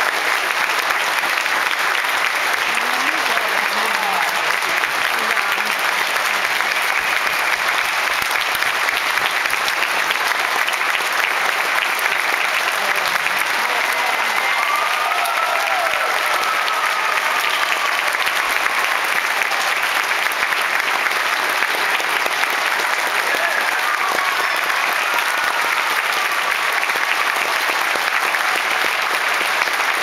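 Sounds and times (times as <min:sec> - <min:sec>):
audience applauding: 0:00.0 - 0:30.0.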